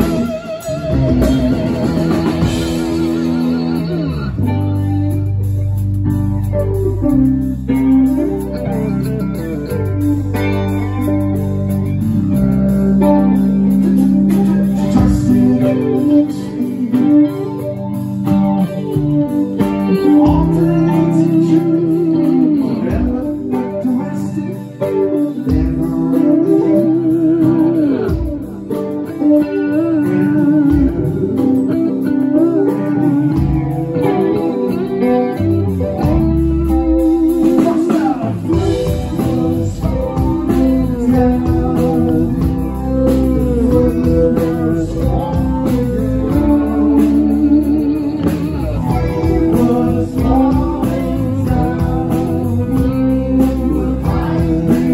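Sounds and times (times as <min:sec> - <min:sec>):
electric guitar bending pitch: 0:00.0 - 0:54.9
live rock band playing: 0:00.0 - 0:54.9.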